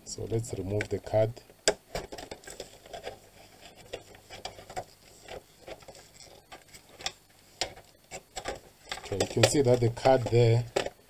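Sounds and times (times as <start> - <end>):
small clicks and rustling: 1.7 - 11.0.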